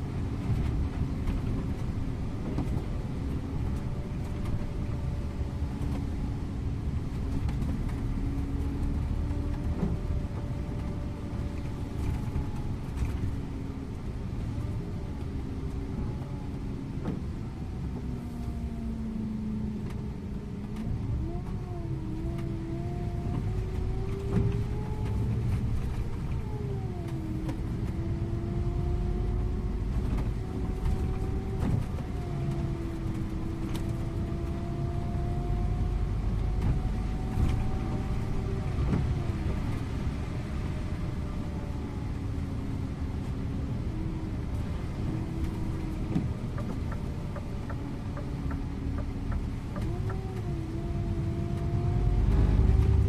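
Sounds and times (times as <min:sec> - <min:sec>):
coach engine and road rumble: 0:00.0 - 0:53.0
humming whine: 0:00.0 - 0:53.0.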